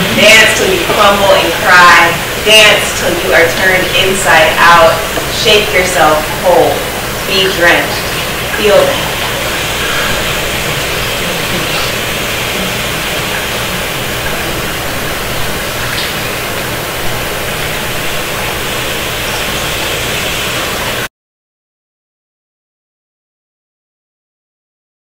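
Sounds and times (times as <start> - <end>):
steady rushing noise: 0.0 - 21.1.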